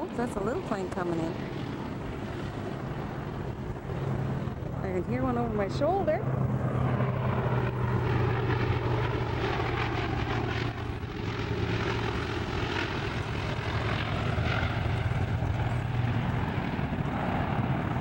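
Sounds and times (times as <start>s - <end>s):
propeller plane droning past: 0.0s - 18.0s.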